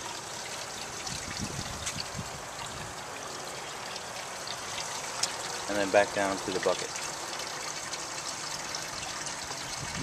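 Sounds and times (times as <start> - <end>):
water trickling through pipes: 0.0 - 10.0.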